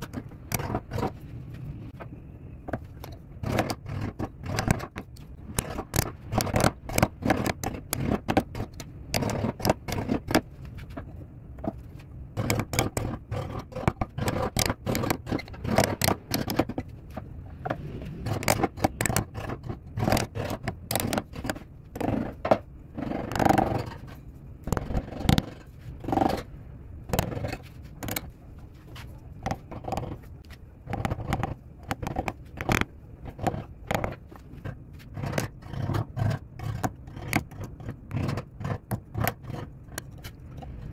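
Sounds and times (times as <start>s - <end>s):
gouge scraping wood: 0.0s - 1.2s, 3.0s - 11.0s, 12.4s - 24.1s, 24.7s - 26.5s, 27.1s - 40.9s
steady low hum: 0.0s - 40.9s.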